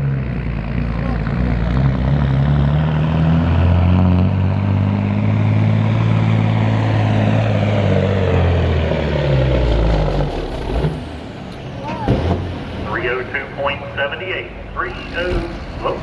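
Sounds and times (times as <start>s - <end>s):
diesel truck engine under load: 0.0s - 16.0s.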